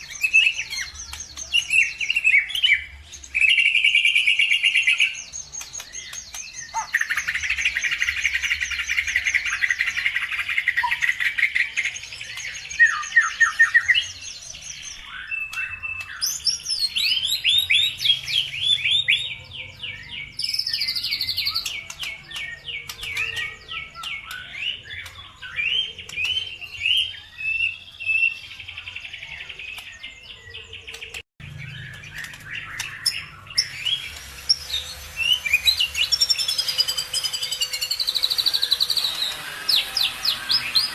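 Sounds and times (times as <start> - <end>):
songbirds singing trills and chirps: 0.0 - 40.9.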